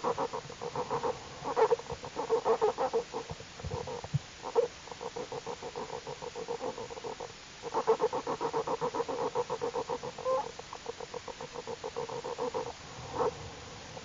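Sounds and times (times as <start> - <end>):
bear cubs pulsing hum: 0.0 - 14.0.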